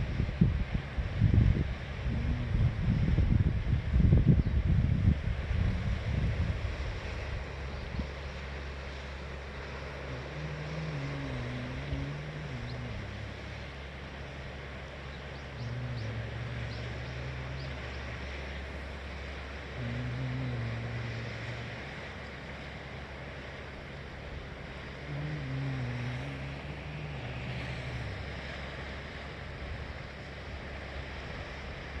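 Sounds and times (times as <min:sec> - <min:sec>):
low wavering drone: 0:00.0 - 0:32.0
sea surf: 0:00.0 - 0:32.0
wind: 0:00.0 - 0:32.0.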